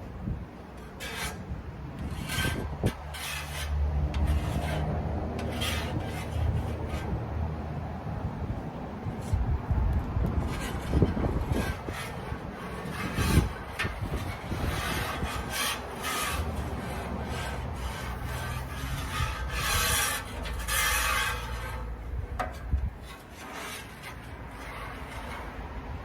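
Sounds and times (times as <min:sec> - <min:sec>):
grill grate being scrubbed: 0:00.6 - 0:26.0.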